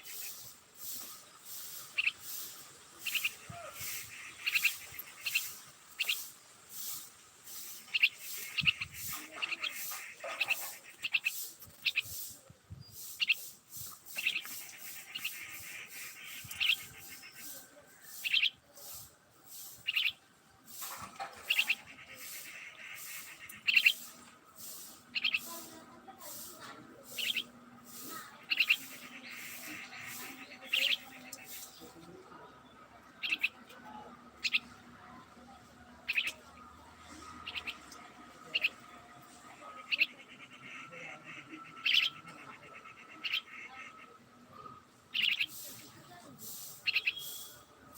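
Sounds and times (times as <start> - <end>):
bird chirping: 0.0 - 34.8, 36.0 - 44.2, 45.1 - 45.9, 46.5 - 47.9.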